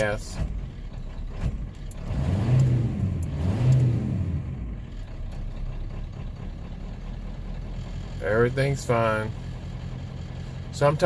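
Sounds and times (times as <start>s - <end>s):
diesel engine revving and idling: 0.0s - 11.0s.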